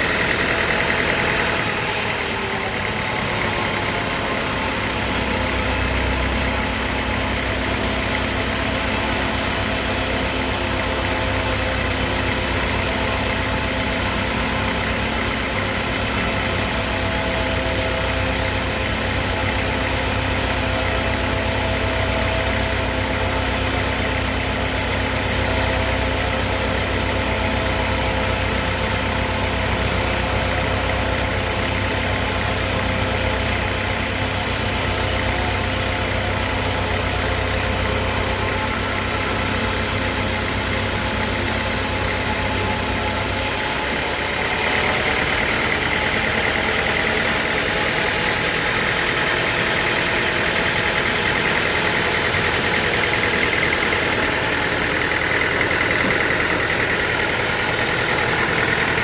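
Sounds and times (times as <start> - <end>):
high machine whine: 0.0 - 59.0
sawmill machinery humming: 0.0 - 59.0.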